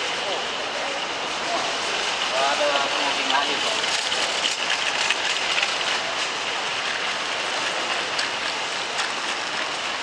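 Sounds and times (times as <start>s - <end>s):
crowd hubbub: 0.0s - 10.0s.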